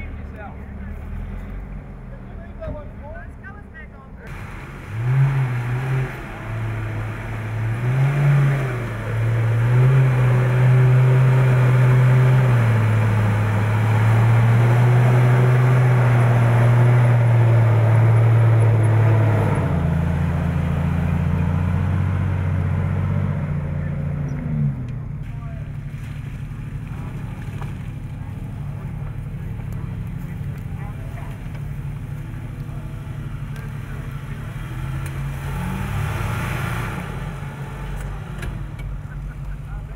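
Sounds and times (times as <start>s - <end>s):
vehicle engine revving: 4.2s - 39.9s.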